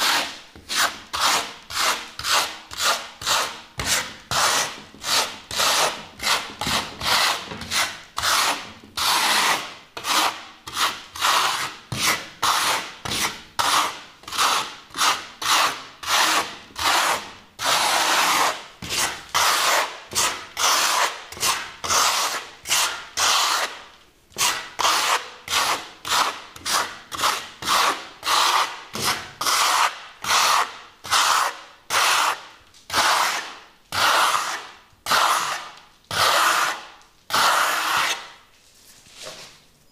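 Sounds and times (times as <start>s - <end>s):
steel trowel scraping wall: 0.0s - 23.8s, 24.4s - 38.4s.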